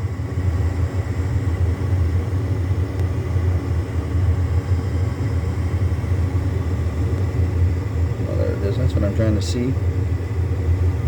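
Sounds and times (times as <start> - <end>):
furnace blower fan rumble: 0.0 - 11.0.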